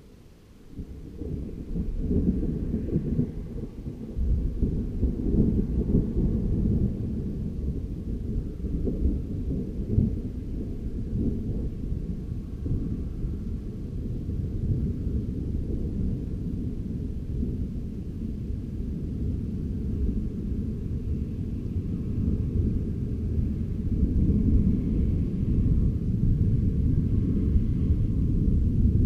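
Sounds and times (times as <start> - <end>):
rolling thunder: 0.7 - 29.0.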